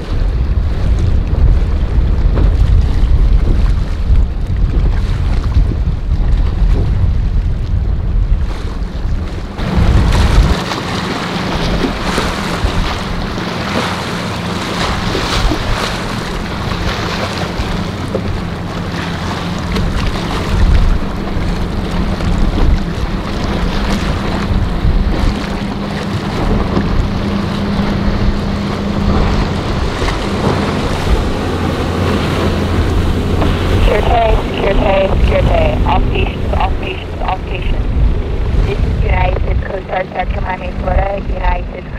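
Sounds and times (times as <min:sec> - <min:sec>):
boat engine drone: 0:00.0 - 0:41.9
waves breaking: 0:00.0 - 0:41.9
wind buffeting microphone: 0:00.0 - 0:41.9.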